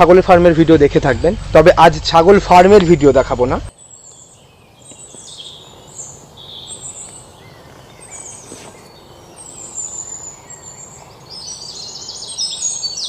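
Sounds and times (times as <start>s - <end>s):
birds chirping and trilling: 0.0s - 13.0s
faint steady background noise: 0.0s - 13.0s.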